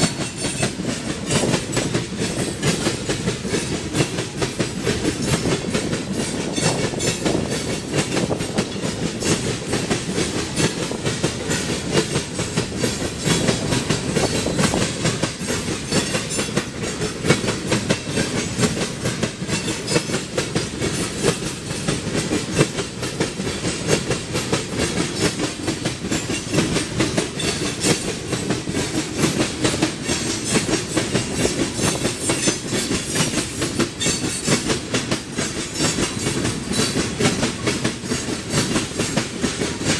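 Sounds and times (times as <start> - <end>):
train rumble: 0.0 - 39.9
train wheels clacking over rails: 0.0 - 39.9.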